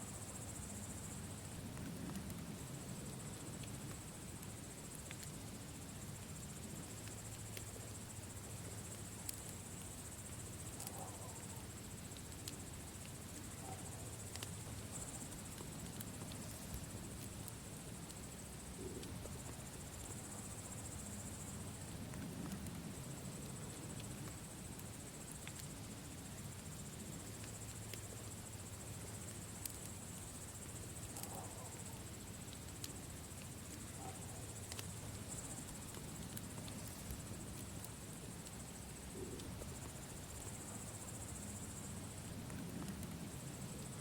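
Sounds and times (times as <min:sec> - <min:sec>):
campfire crackling: 0:00.1 - 0:44.0.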